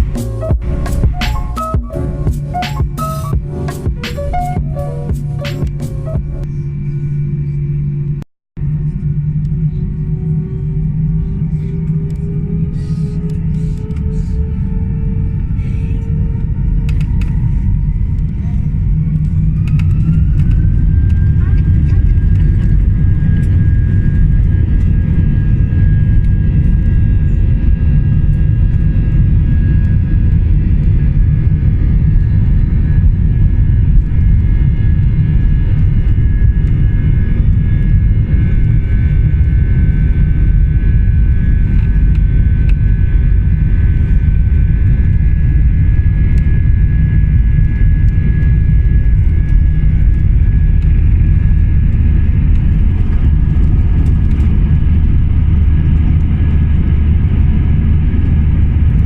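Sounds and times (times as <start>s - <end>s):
jet engine whine: 0.0s - 59.0s
jet engines rumbling in cabin: 0.0s - 59.0s.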